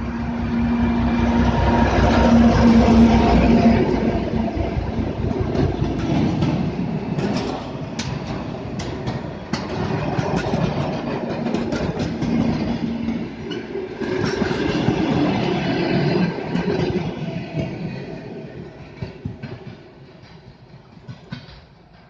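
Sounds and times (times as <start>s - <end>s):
train rolling past rumbling: 0.0s - 22.0s.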